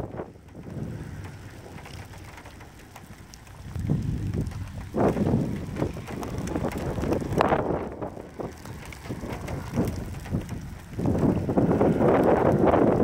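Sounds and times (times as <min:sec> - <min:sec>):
small clicks: 0:00.0 - 0:13.0
storm wind buffeting microphone: 0:00.0 - 0:13.0.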